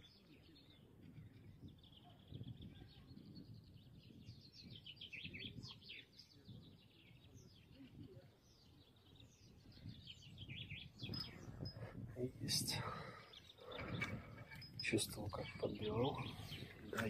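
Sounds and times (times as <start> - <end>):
low rumble of wind: 0.0 - 17.0
small birds chirping: 0.0 - 17.0.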